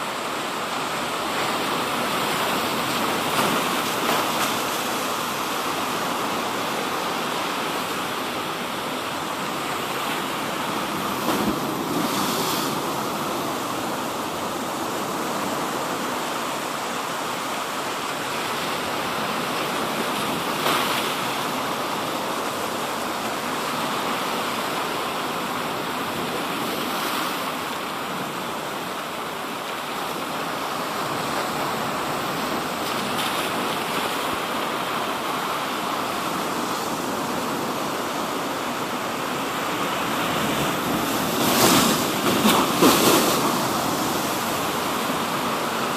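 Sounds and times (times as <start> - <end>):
sea waves washing ashore: 0.0 - 45.9.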